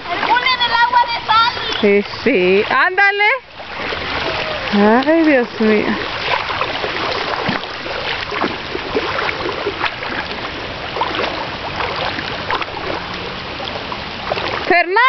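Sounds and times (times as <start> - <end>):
floodwater rushing: 0.0 - 15.0
small water splashes: 0.0 - 15.0.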